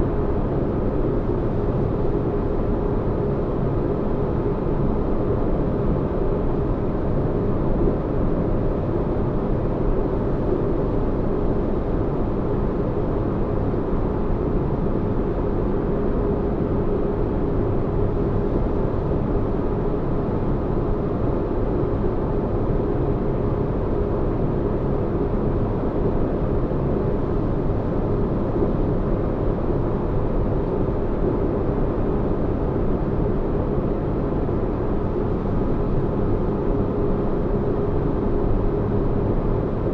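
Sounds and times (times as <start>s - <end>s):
faint constant hum: 0.0s - 39.9s.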